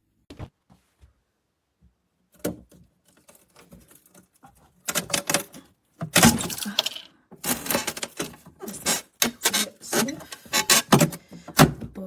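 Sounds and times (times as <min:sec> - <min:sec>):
irregular clicks and knocks: 0:02.3 - 0:12.0.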